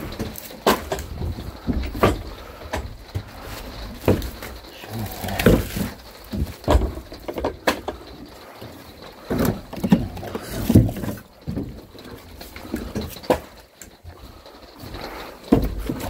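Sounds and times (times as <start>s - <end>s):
firewood logs knocking together: 0.0s - 16.0s.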